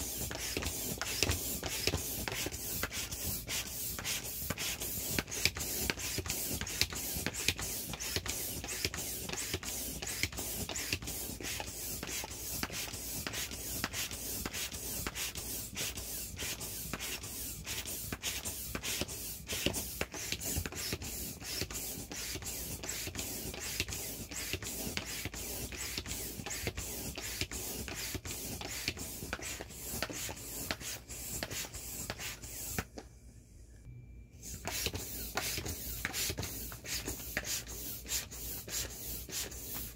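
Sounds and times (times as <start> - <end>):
electric air pump humming: 0.0 - 33.0, 34.3 - 39.9.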